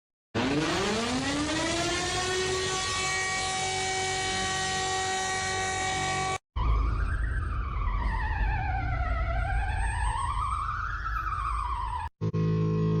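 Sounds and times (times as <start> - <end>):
steady siren tone: 0.4 - 12.1
wailing siren: 0.4 - 12.1.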